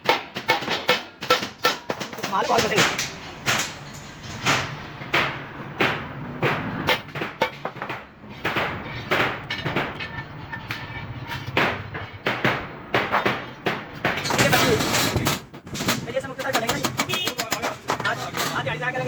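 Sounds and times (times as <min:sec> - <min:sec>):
hammer striking steel sheet: 0:00.0 - 0:18.6.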